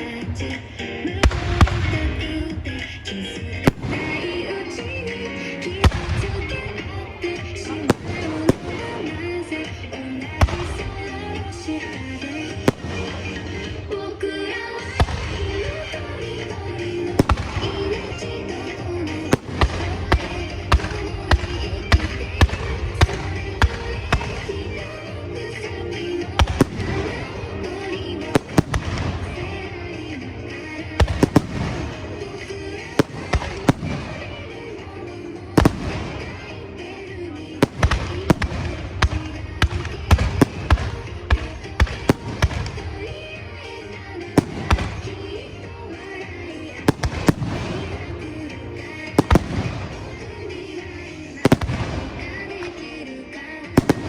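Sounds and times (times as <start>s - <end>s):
fireworks bursting: 0.0s - 54.0s
music: 0.0s - 54.0s.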